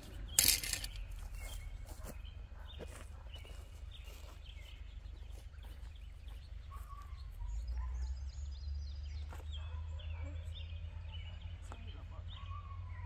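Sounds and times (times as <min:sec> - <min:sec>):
birds chirping and whistling: 0:00.0 - 0:11.6.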